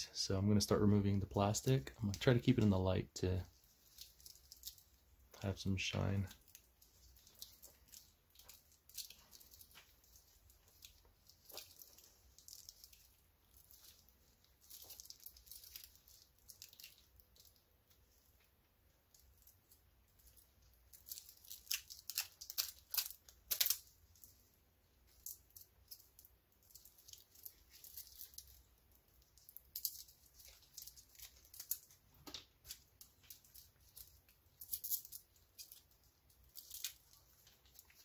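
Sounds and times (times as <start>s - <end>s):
plastic wrap crinkling and tearing: 1.1s - 18.5s, 19.1s - 38.0s.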